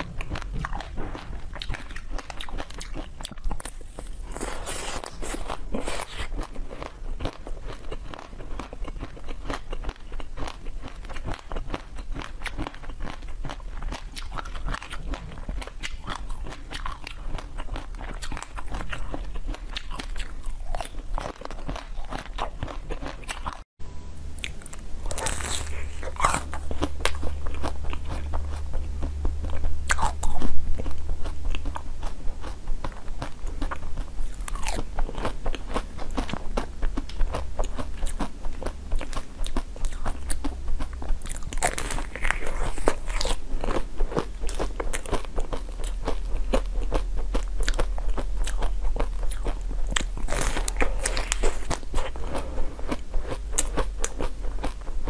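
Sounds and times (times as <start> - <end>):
chewing: 0.0 - 23.6, 24.4 - 54.9
crunching frozen sweets: 0.0 - 23.6, 24.2 - 55.0.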